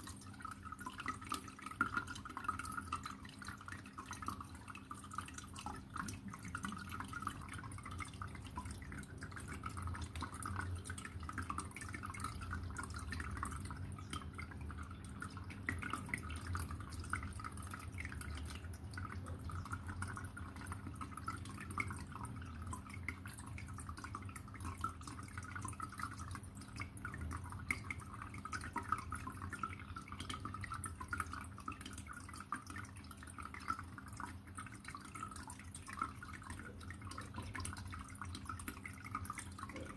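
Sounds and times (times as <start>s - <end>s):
low steady hum: 0.0s - 39.9s
water trickling and dripping: 0.0s - 39.9s.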